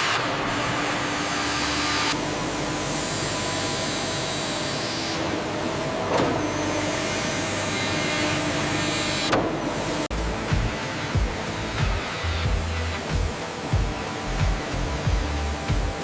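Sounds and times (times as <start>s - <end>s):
factory machinery whirring: 0.0s - 16.0s.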